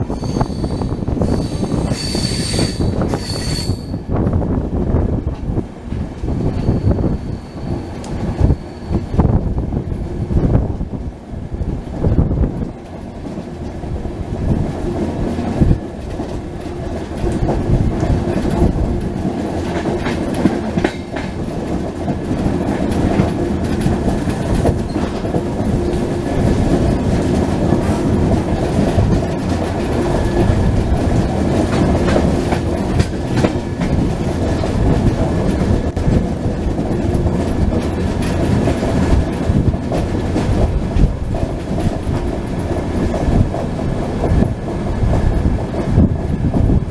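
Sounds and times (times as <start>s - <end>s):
clickety-clack over rail joints: 0.0s - 46.9s
train wheels rumbling on track: 0.0s - 46.9s.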